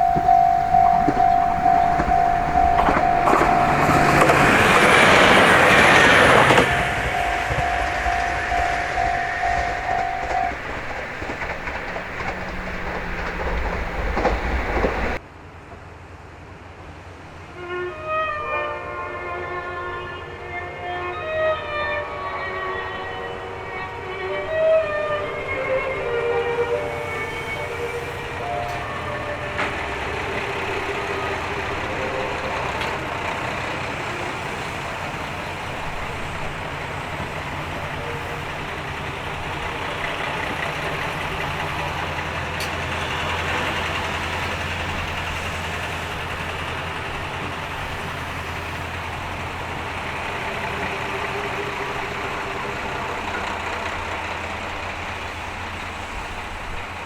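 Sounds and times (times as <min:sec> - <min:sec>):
vehicle engine humming: 0:00.0 - 0:15.2, 0:25.7 - 0:57.0.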